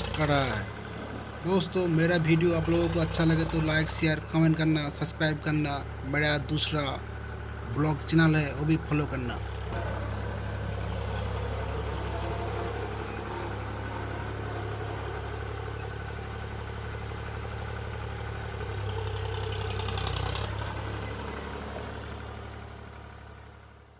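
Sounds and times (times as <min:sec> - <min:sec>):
tractor diesel engine idling: 0:00.0 - 0:23.9.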